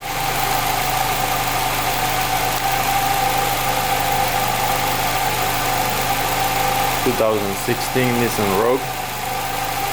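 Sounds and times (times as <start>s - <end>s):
car engine idling with whine: 0.0s - 9.9s.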